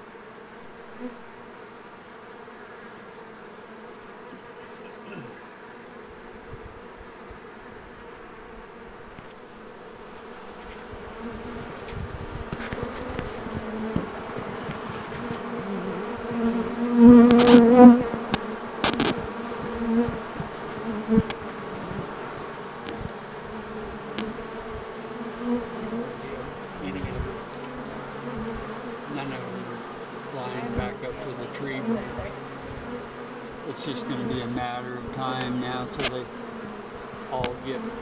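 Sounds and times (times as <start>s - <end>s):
bee buzzing close by: 0.0s - 38.0s
honey bees swarm humming: 0.0s - 38.0s.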